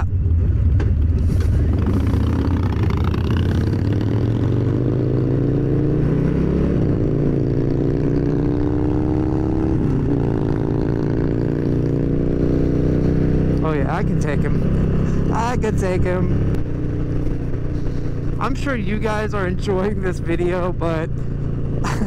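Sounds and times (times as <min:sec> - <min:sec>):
motorcycle engine pulling away: 0:01.4 - 0:19.6.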